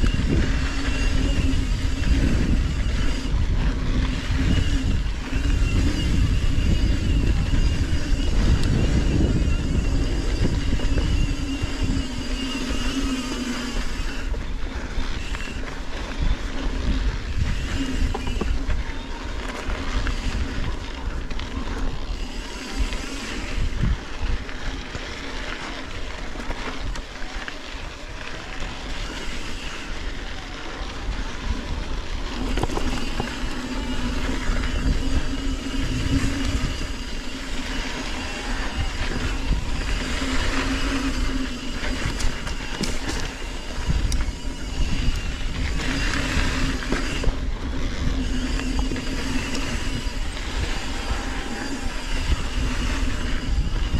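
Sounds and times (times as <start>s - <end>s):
wind rushing over microphone: 0.0s - 25.0s, 25.6s - 53.9s
hum and higher buzz: 0.0s - 27.8s, 28.4s - 53.9s
bike tyres rolling: 0.0s - 53.9s.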